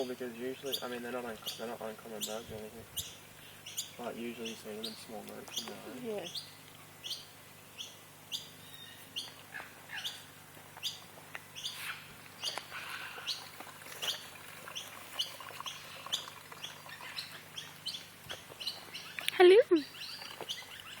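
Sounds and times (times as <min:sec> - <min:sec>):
wild birds chirping: 0:00.0 - 0:21.0.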